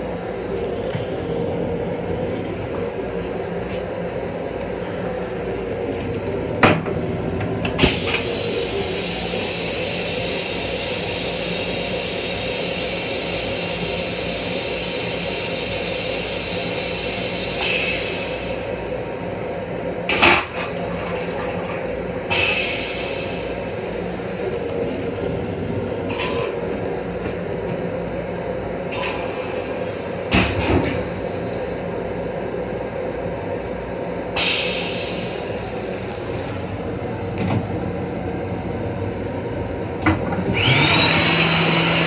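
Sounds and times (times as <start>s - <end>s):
railcar humming: 0.0s - 42.0s.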